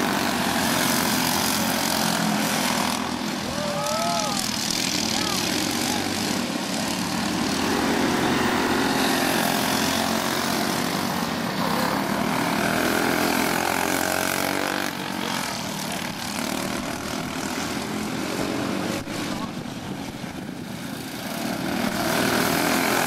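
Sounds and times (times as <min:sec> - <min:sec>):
go-kart engine running hard: 0:00.0 - 0:23.0.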